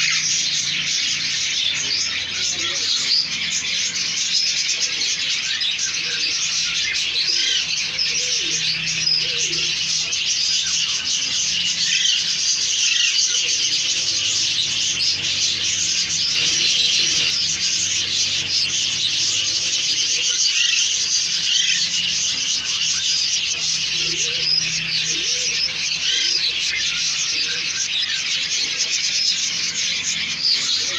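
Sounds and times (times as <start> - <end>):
parrots chirping and chattering: 0.0 - 30.9.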